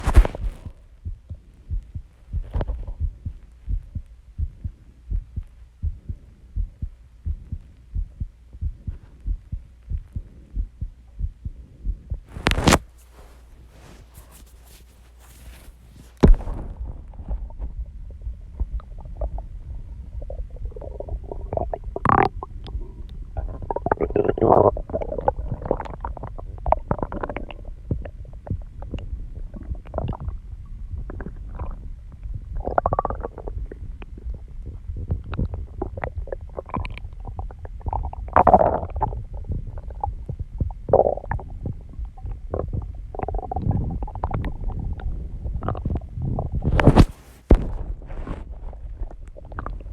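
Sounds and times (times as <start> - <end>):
stomach growling: 0.0 - 12.8, 16.2 - 49.9.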